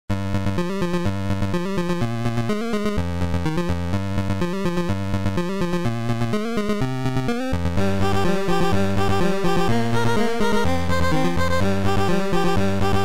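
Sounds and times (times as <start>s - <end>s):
electronic music with bass line: 0.3s - 13.0s.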